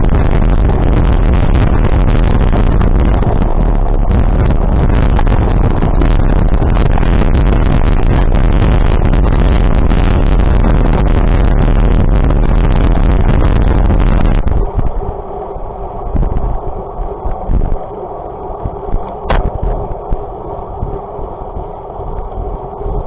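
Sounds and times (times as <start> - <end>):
moving vehicle rumble: 0.0 - 23.0
wind buffeting microphone: 0.0 - 23.0.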